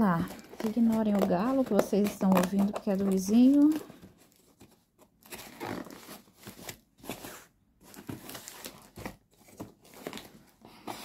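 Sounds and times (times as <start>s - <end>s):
cardboard and plastic crinkling: 0.0s - 11.0s.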